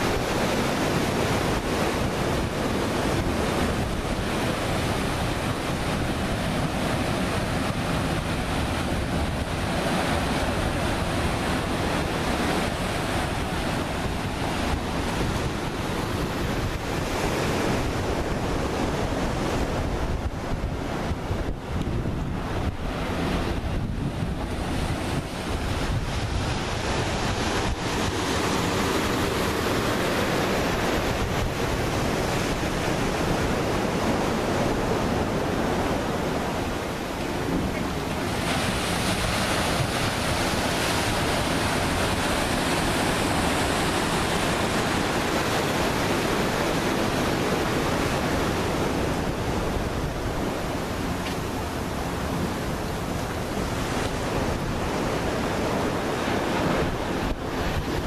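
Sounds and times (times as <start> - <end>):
ocean surf breaking: 0.0 - 58.0
wind rumbling on microphone: 0.0 - 58.0.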